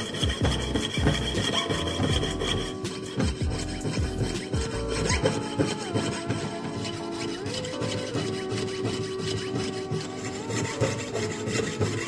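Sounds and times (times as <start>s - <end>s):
hand tool strokes on metal: 0.0s - 12.0s.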